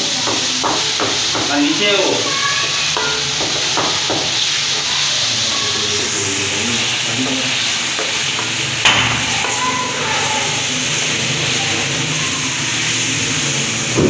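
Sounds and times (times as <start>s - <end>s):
chicken sizzling in hot oil: 0.0s - 14.0s
wooden spoon stirring in pan: 0.0s - 14.0s.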